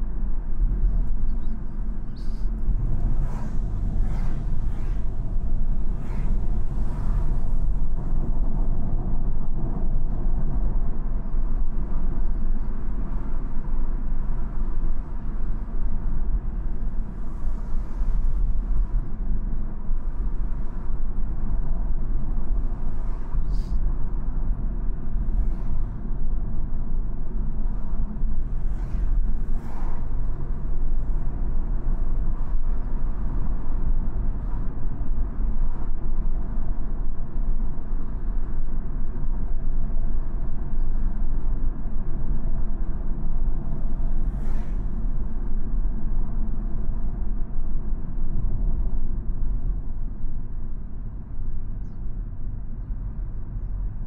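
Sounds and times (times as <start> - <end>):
tyre and road noise: 0.0 - 54.0.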